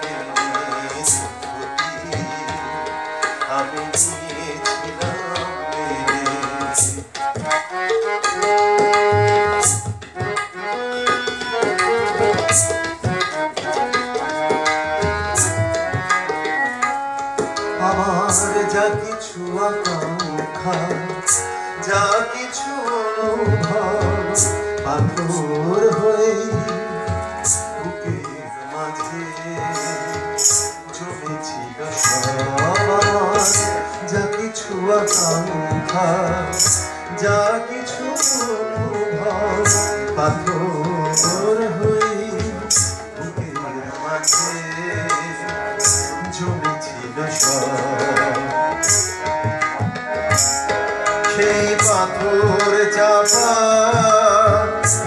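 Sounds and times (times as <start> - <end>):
song melody: 0.0 - 55.0
tabla rhythm: 0.0 - 55.0.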